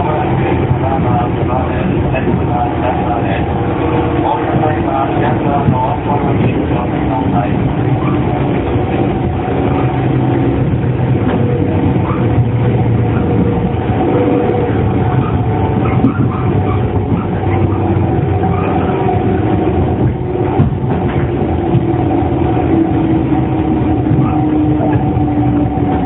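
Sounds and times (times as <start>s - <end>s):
traction motor hum: 0.0s - 26.0s
train wheel and rail noise: 0.0s - 26.0s.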